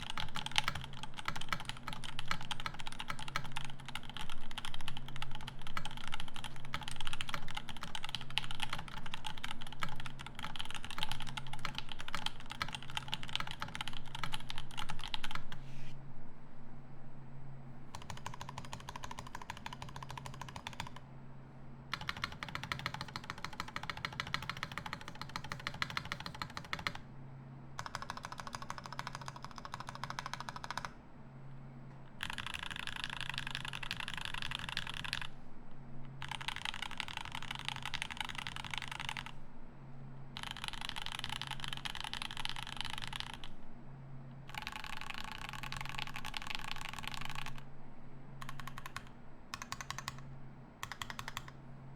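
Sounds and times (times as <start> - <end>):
mechanical keyboard typing: 0.0 - 15.6, 17.9 - 21.0, 21.9 - 27.0, 27.8 - 31.0, 32.2 - 35.4, 36.2 - 39.4, 40.4 - 43.6, 44.5 - 47.6, 48.4 - 51.6.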